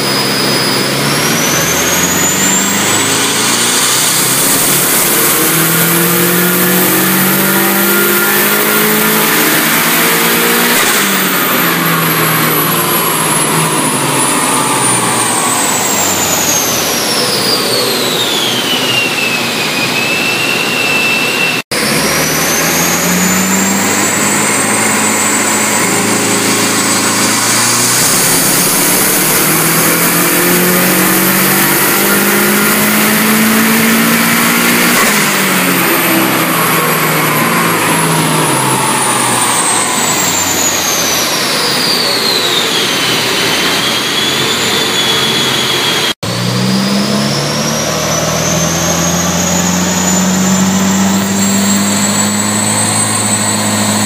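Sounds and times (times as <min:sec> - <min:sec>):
engine running on dyno: 0:00.0 - 0:54.0
high turbo whine: 0:00.0 - 0:54.0.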